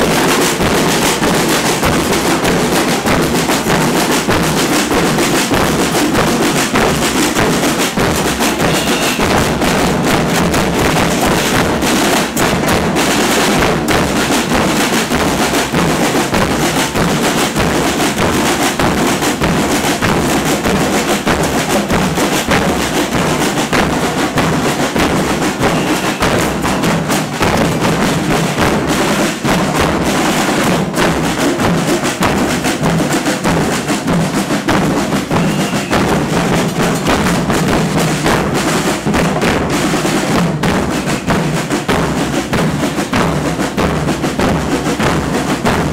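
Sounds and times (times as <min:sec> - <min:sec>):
percussion troupe drumming: 0:00.0 - 0:45.9.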